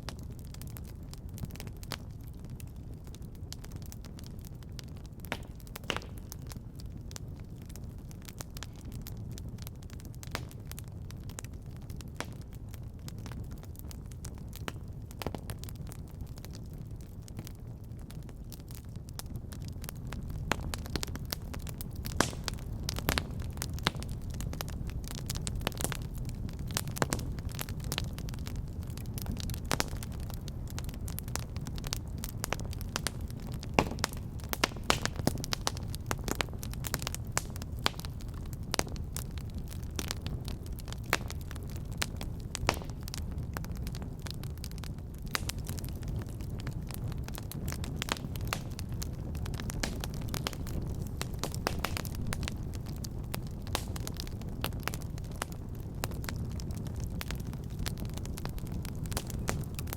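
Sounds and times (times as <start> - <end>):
fireplace fire crackling: 0.0 - 59.9
low rumble of flames: 0.0 - 59.9.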